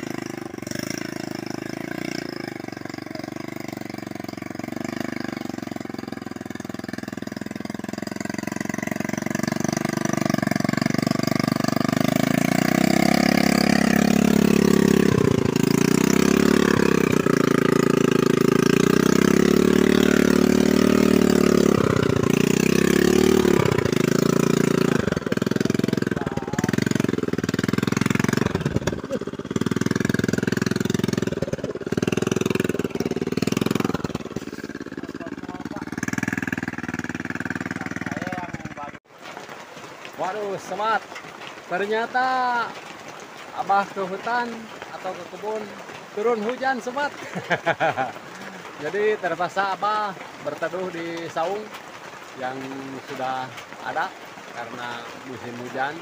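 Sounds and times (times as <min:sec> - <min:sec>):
motorcycle engine pulling uphill: 0:00.0 - 0:56.0.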